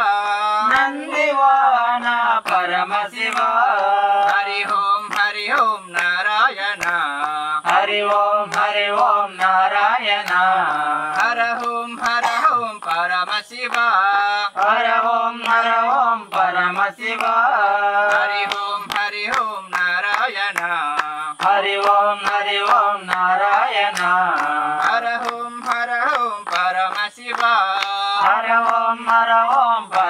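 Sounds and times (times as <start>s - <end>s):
group singing devotional song: 0.0s - 30.0s
hand claps: 0.0s - 30.0s.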